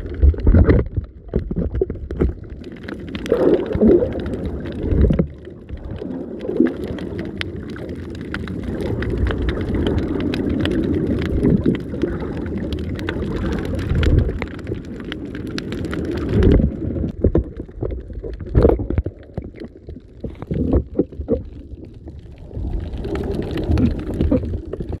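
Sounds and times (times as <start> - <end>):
fine crackle: 0.0 - 25.0
underwater rumble and gurgling: 0.0 - 25.0.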